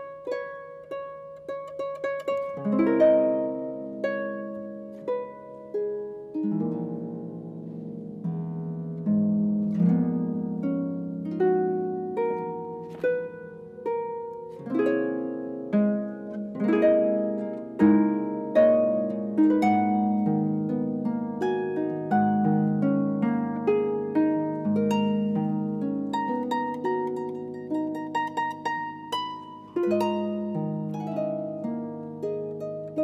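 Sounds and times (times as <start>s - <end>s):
solo harp playing: 0.0s - 33.0s.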